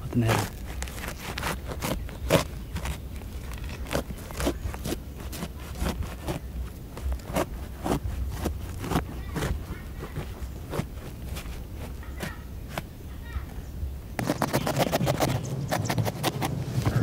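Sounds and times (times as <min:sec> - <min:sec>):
knife crunching through fruit rind: 0:00.0 - 0:12.9, 0:14.2 - 0:17.0.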